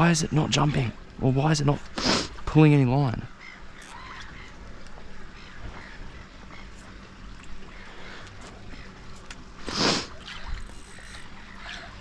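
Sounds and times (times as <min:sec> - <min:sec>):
low rumble of water: 0:00.0 - 0:12.0.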